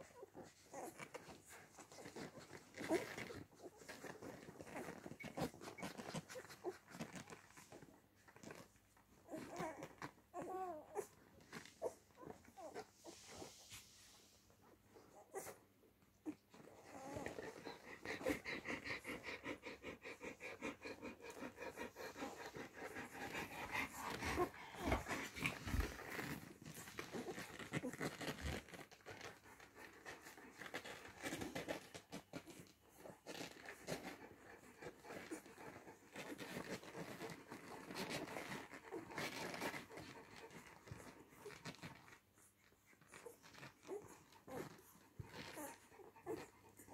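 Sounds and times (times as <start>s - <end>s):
puppies suckling and breathing: 0.0s - 46.9s
rustling against fur: 0.1s - 15.6s, 16.2s - 46.9s.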